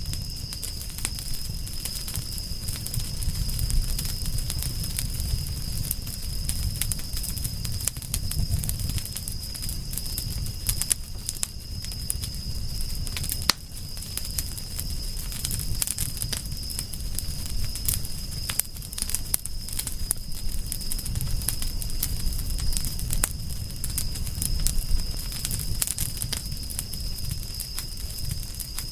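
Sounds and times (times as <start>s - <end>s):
low rumble of flames: 0.0s - 28.9s
wood fire crackling and popping: 0.0s - 28.9s.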